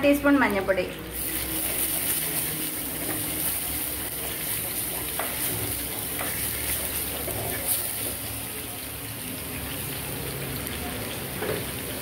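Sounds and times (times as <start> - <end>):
paste sizzling in oil: 0.4 - 12.0.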